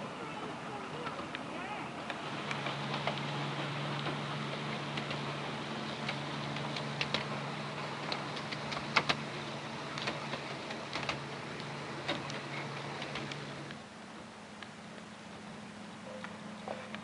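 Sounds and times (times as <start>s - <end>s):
locomotive low hum: 0.0s - 17.0s
wheels clicking over rail joints: 0.0s - 17.0s.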